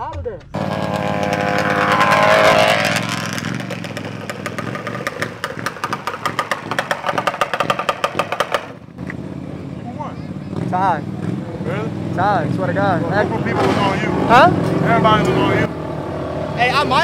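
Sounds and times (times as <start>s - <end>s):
atv engine running: 0.5s - 17.0s.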